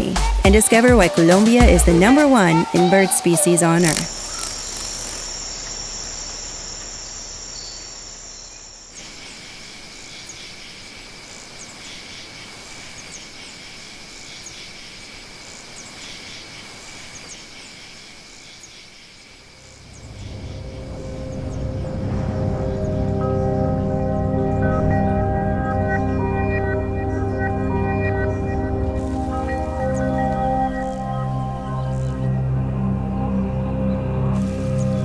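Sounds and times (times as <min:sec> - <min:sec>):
insects trilling: 0:02.1 - 0:32.9, 0:34.3 - 0:35.0
insect chorus low buzz: 0:03.7 - 0:35.0.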